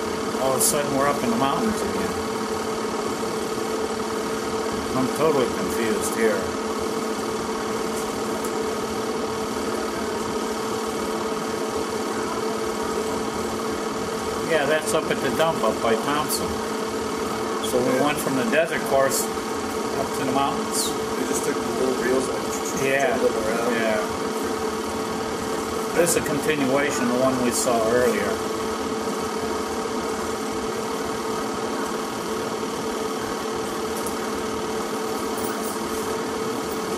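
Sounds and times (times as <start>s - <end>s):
mechanical hum with drone: 0.0s - 36.9s.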